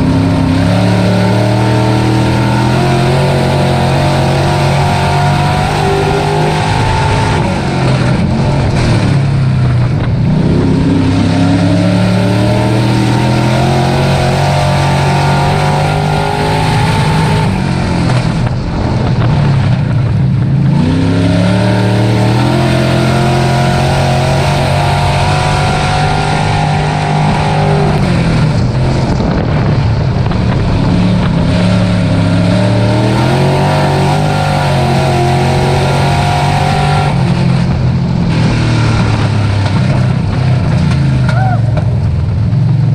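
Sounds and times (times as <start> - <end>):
race truck engine running hard: 0.0 - 42.9.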